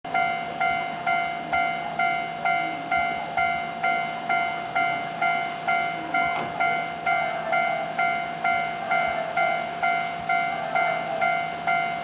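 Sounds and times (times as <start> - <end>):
level crossing warning bell ringing: 0.1 - 12.0.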